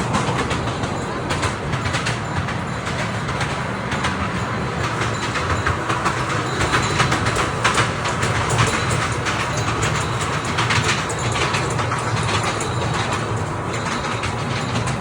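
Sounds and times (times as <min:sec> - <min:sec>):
train rumbling on track: 0:00.0 - 0:15.0
wheels clicking and rattling: 0:00.0 - 0:15.0.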